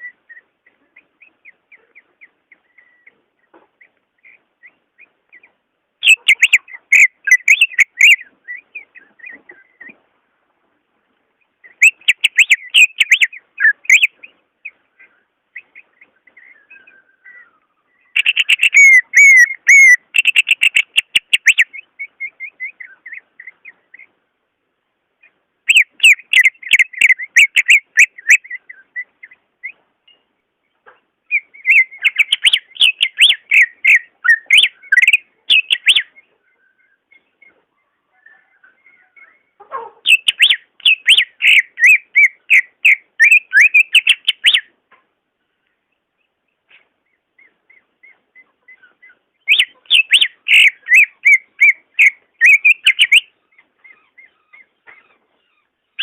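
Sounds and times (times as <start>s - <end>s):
bird singing whistled notes: 0.0s - 0.5s, 1.2s - 3.2s, 4.2s - 9.9s, 11.6s - 24.1s, 25.6s - 30.3s, 31.2s - 44.7s, 47.4s - 54.7s.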